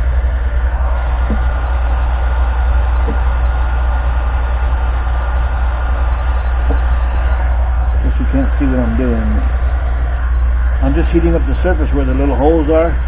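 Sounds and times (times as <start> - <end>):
heat gun blowing hum: 0.0 - 13.0.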